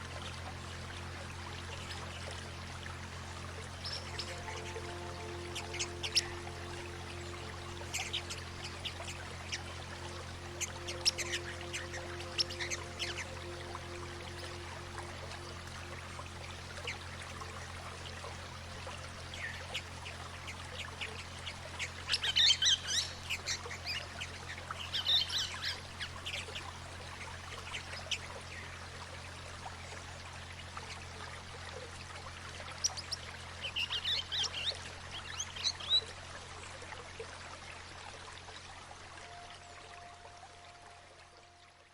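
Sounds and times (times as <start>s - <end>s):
low steady hum: 0.0s - 41.9s
running water: 0.0s - 41.9s.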